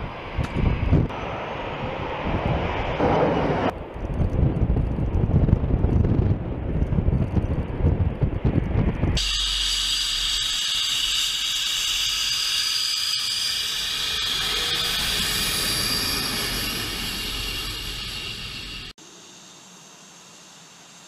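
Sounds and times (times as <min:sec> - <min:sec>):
jet engine low rumble: 0:00.0 - 0:21.0
jet engines high-pitched whine: 0:00.0 - 0:21.0.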